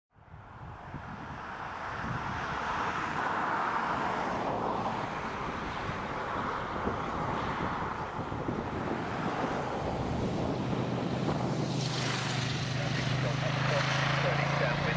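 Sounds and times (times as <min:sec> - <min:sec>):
wind on microphone: 0:00.2 - 0:13.8.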